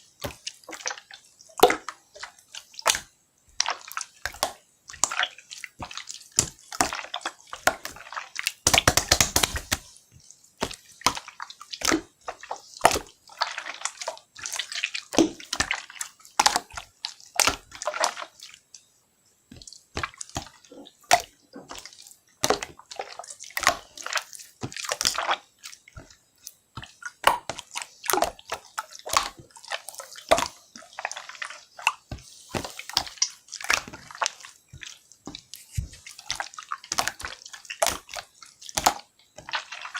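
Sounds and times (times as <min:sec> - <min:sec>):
slime squelching by hand: 0:00.0 - 0:18.9, 0:19.5 - 0:39.9.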